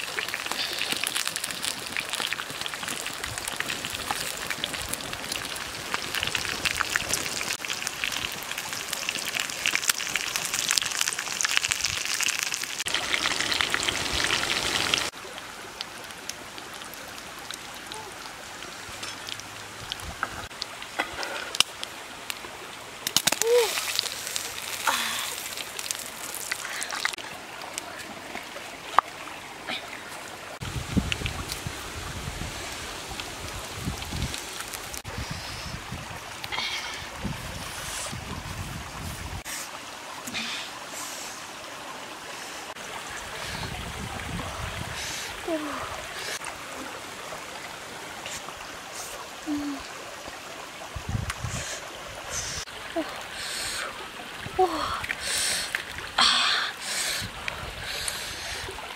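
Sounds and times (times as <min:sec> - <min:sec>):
running water hiss: 0:00.0 - 0:58.9.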